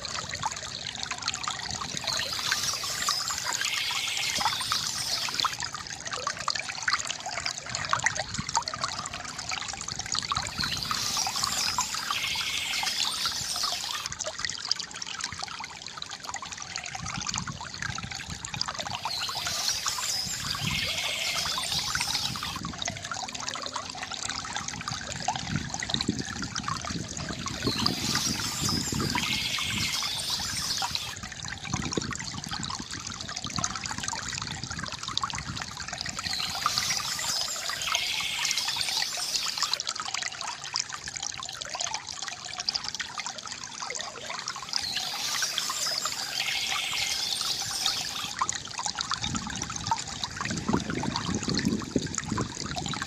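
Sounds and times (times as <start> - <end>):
stream water trickling: 0.0 - 53.0.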